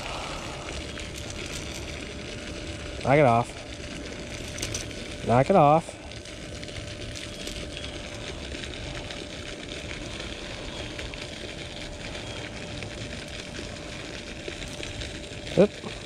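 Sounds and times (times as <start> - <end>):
faint hum: 0.0 - 16.0
fountain splashing: 0.0 - 16.0.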